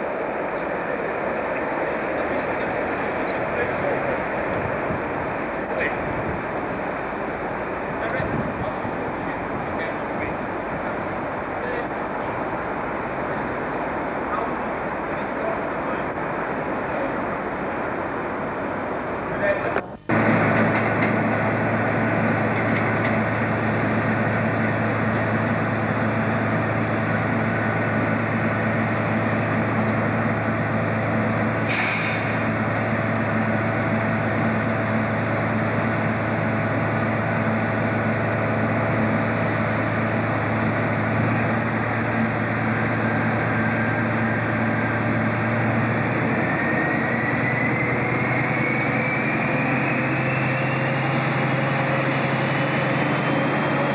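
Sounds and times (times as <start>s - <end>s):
diesel engine idling: 0.0s - 53.9s
turbocharger whine: 0.0s - 53.9s.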